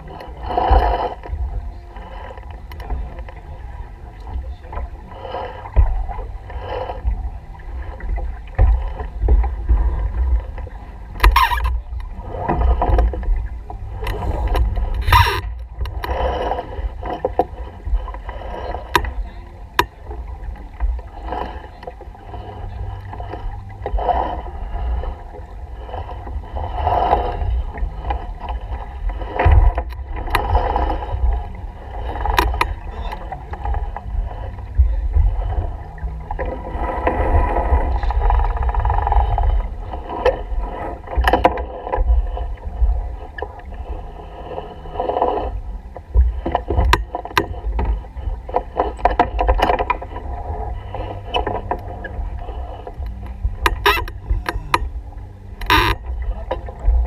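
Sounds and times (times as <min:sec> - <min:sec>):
water rushing along hull: 0:00.0 - 0:57.0
wind buffeting microphone: 0:00.0 - 0:57.0.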